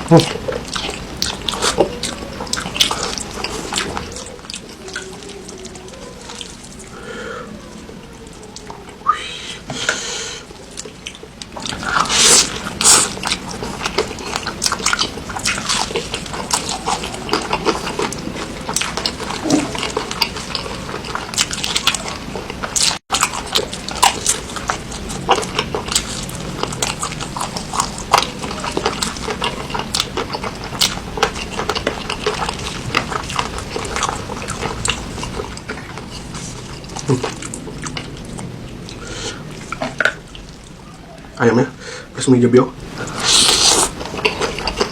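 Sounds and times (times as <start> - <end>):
person chewing wetly: 0.0 - 40.9, 42.8 - 44.9.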